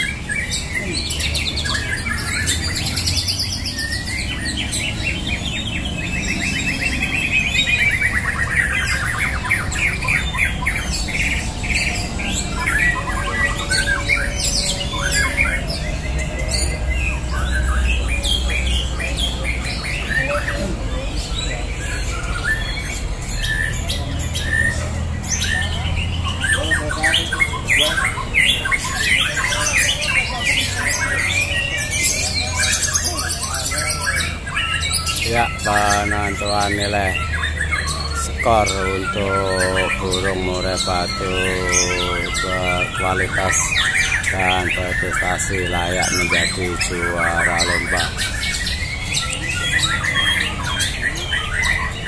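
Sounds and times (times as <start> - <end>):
many birds singing: 0.0 - 52.0.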